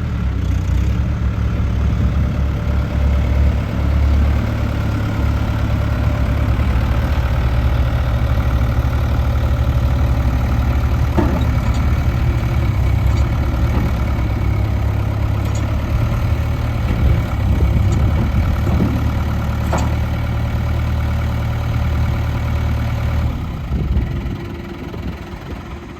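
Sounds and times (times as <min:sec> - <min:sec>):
tractor diesel engine idling: 0:00.0 - 0:25.9.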